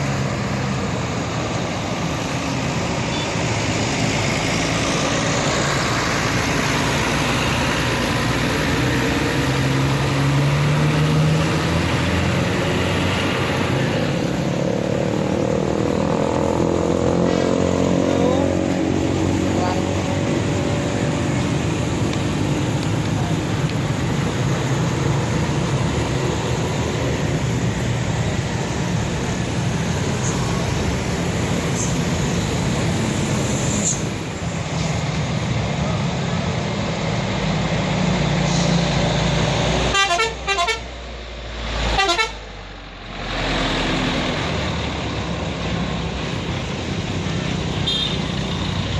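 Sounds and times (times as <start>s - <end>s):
vehicle pulling away: 0.0s - 39.9s, 42.7s - 47.7s
heavy vehicle engines running: 0.0s - 48.9s
traffic noise: 0.0s - 48.9s.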